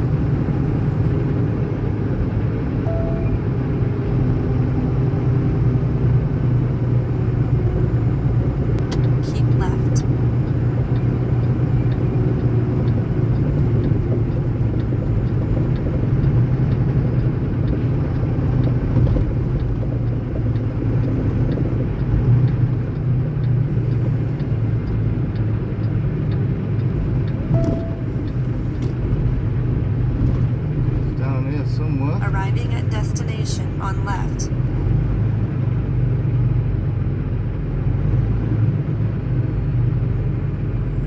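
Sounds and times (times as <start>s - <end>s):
diesel truck engine humming: 0.0s - 41.0s
turn signal ticking: 2.6s - 36.2s.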